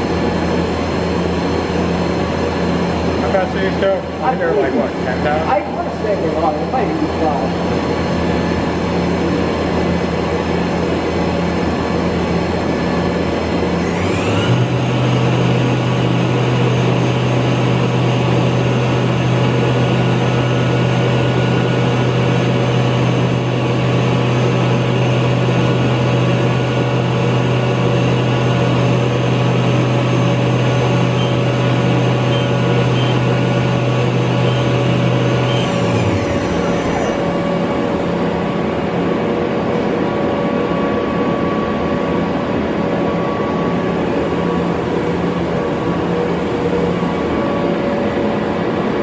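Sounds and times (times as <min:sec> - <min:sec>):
machine spindle humming and whining: 0:00.0 - 0:49.0.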